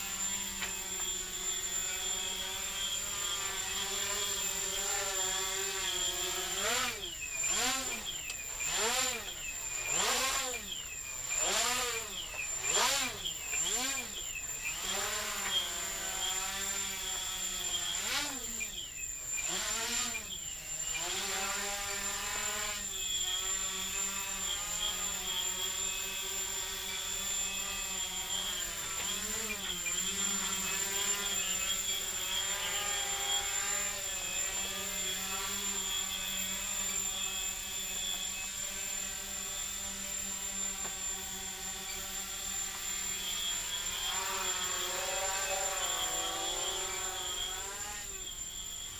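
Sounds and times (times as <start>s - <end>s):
quadcopter motors buzzing: 0.0s - 48.9s.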